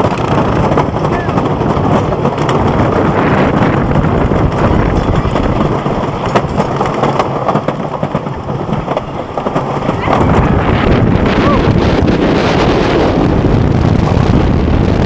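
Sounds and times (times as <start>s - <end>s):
roller coaster wheels clattering: 0.0s - 15.0s
wind buffeting microphone: 0.0s - 15.0s.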